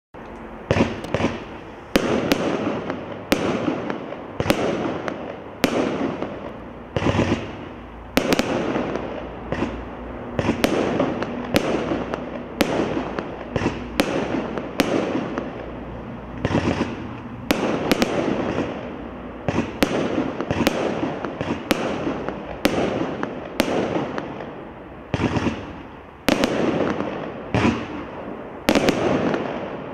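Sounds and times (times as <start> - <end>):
fireworks rumble: 0.2 - 29.9
fireworks bangs: 0.6 - 29.9.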